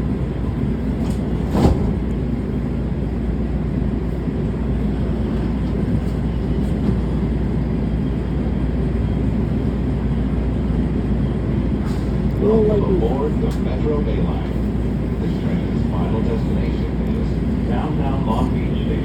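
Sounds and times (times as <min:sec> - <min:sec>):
train rumble from inside car: 0:00.0 - 0:19.0.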